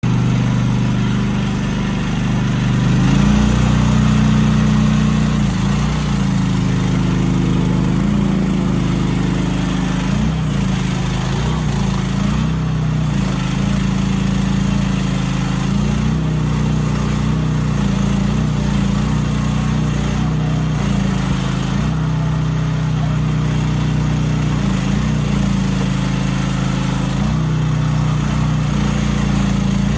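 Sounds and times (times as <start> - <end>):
small gasoline engine running: 0.0 - 29.9.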